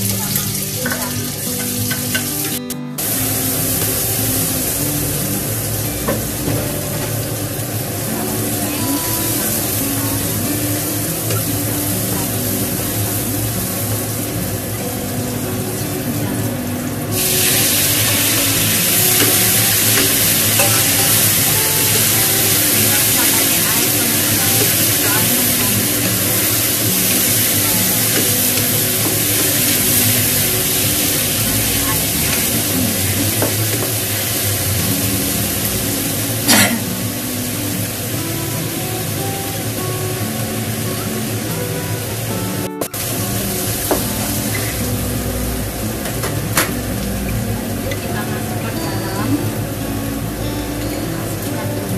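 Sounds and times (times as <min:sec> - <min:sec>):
food sizzling in hot oil: 0:00.0 - 0:51.9.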